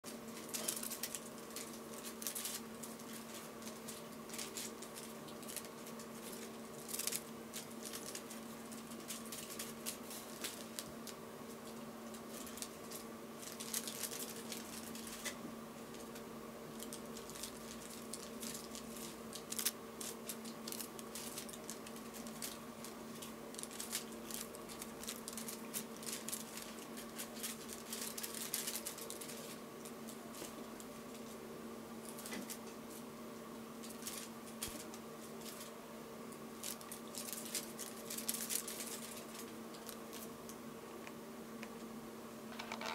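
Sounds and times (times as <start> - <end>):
low steady hum: 0.1 - 42.9.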